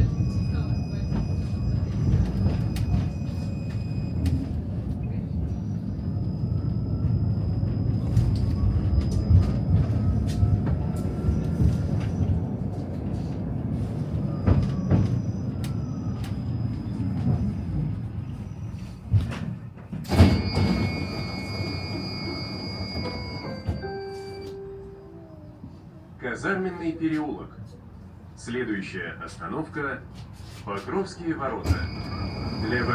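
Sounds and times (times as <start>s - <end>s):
tram rumbling on rails: 0.0s - 32.9s.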